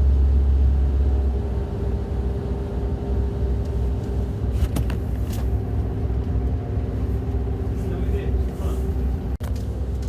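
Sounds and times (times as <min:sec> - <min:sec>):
engine rumbling and droning: 0:00.0 - 0:10.0.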